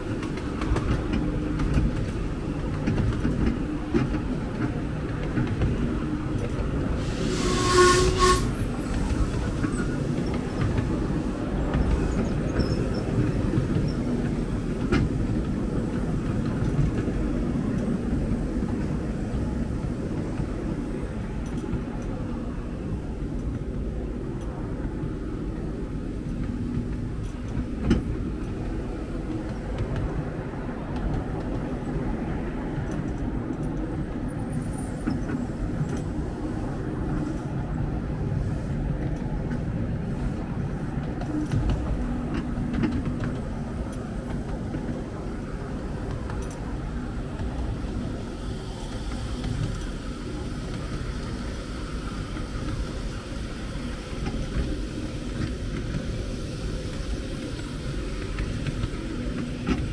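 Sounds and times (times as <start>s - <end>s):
miniature train rumbling on track: 0.0s - 59.9s
sharp clicks of train wheels: 0.0s - 59.9s.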